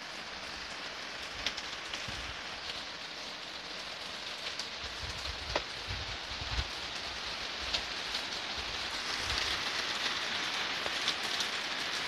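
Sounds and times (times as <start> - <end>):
heavy rain falling: 0.0 - 12.0
raindrops ticking close by: 0.0 - 12.0.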